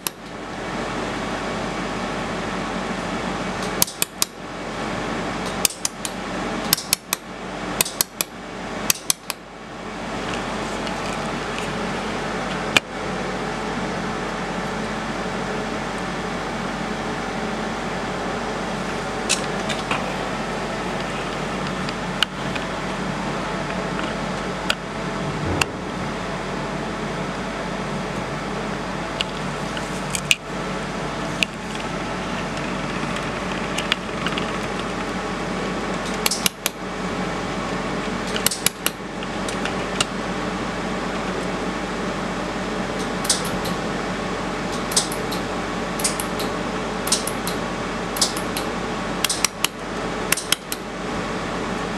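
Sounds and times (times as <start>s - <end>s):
cooling fan hum: 0.0s - 51.9s.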